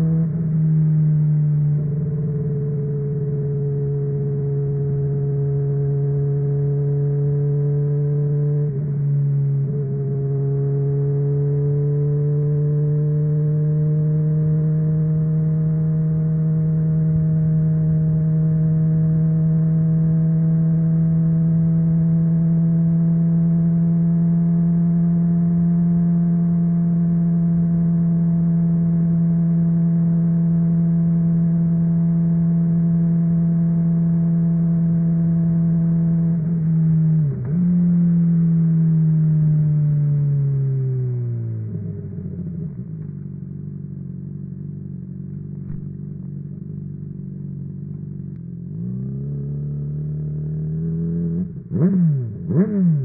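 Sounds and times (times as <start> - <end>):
motorcycle engine cruising: 0.0 - 53.0.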